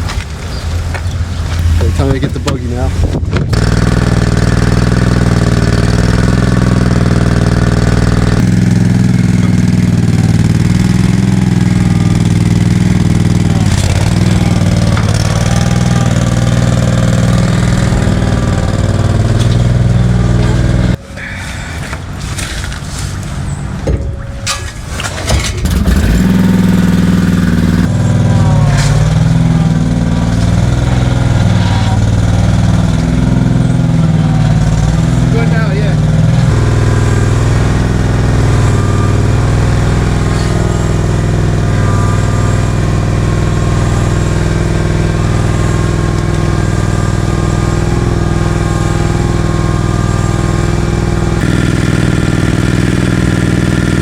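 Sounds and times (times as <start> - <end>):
small gas engine running: 1.6 - 22.8, 25.0 - 54.0.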